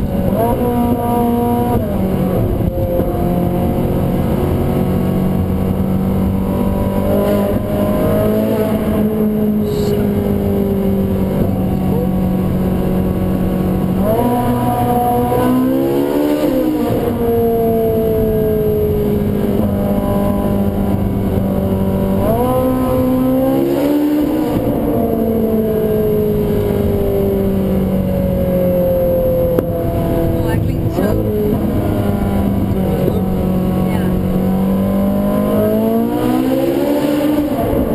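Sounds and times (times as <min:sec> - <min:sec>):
sports car engine running: 0:00.0 - 0:37.9.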